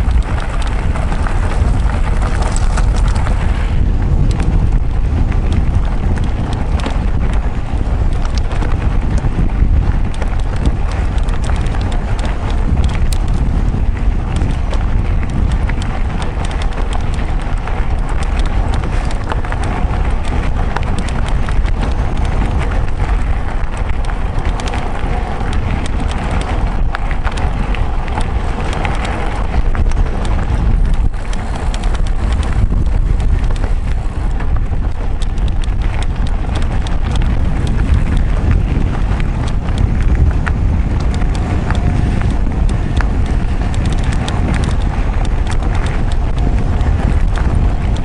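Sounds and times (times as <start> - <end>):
bike rattling over stones: 0.0 - 48.0
wind buffeting microphone: 0.0 - 48.0.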